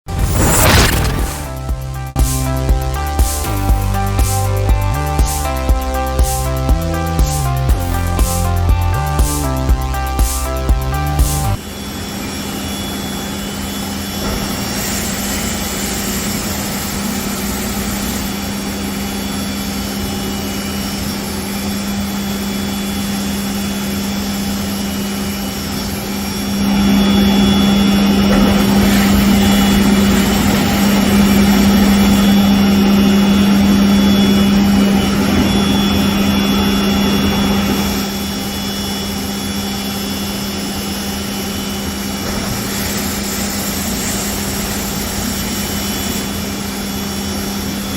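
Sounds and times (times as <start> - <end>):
machining center humming: 0.0 - 47.9
high machine whines: 0.1 - 47.9.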